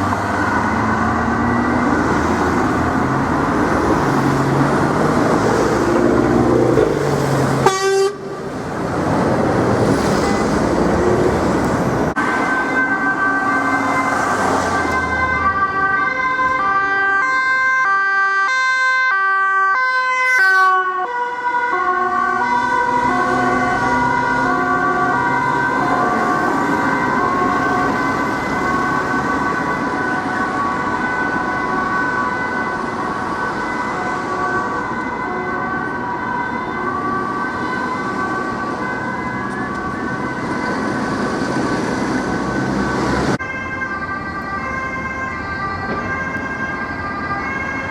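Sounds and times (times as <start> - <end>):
police car two-tone siren: 0.0 - 8.3, 12.2 - 47.9
road traffic noise: 0.0 - 47.9.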